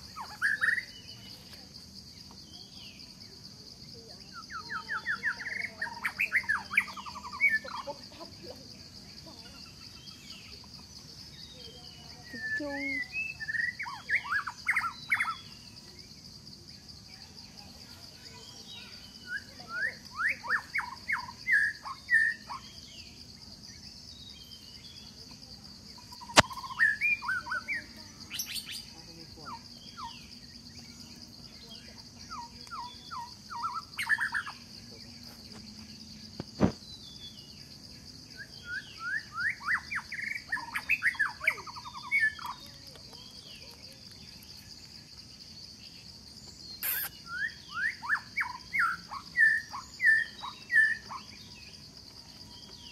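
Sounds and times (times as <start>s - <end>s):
high chirping calls: 0.0s - 1.6s, 4.2s - 16.0s, 17.7s - 37.6s, 38.4s - 52.9s
high insect drone: 0.0s - 52.9s.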